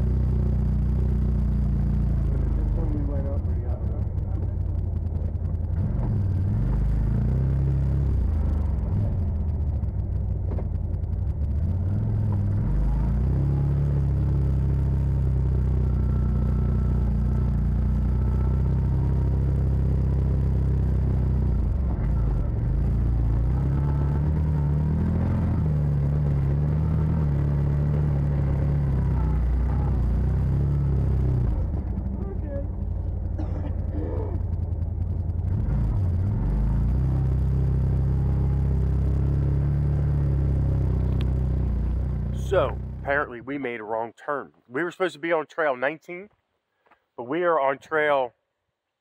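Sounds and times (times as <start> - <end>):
utility vehicle engine running: 0.0 - 43.6.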